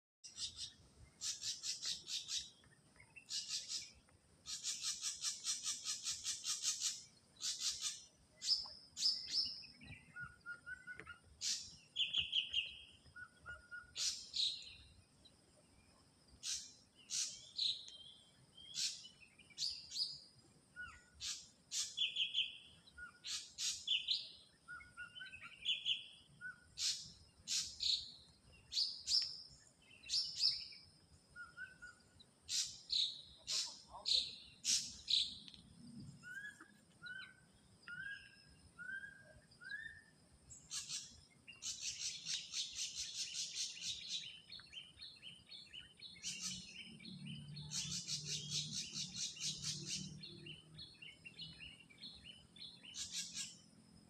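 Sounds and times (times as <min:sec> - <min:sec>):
bird singing varied calls: 0:00.2 - 0:15.2, 0:15.8 - 0:53.7.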